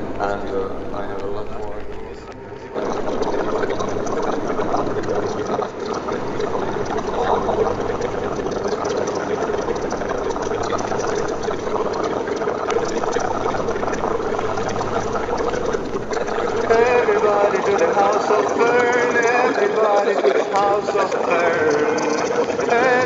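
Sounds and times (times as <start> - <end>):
low steady hum: 0.0 - 23.0
rain on car roof: 0.0 - 23.0.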